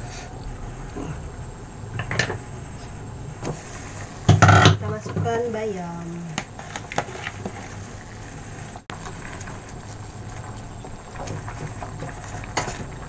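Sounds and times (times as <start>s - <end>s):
soup boiling in a pot: 0.0s - 13.0s.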